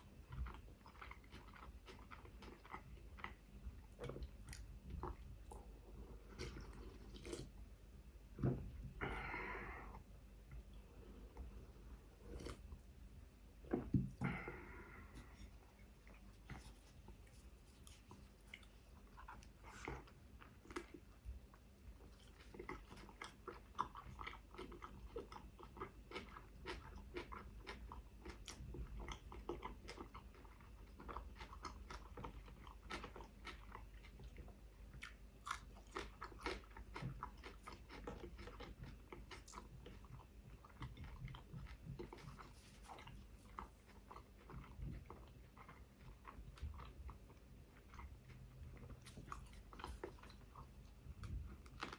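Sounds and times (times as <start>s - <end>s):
chewing and crunching: 0.0s - 7.7s, 8.5s - 51.9s.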